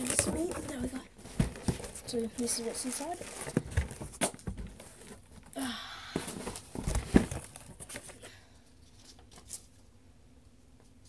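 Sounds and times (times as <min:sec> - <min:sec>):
paper and packaging rustling: 0:00.0 - 0:05.5, 0:06.1 - 0:09.8.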